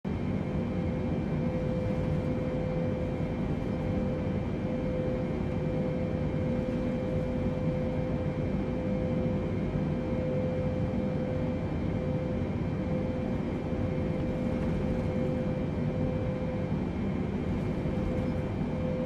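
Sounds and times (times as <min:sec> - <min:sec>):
airliner cabin engine rush: 0:00.1 - 0:19.0
mid-pitched hum: 0:00.1 - 0:19.0.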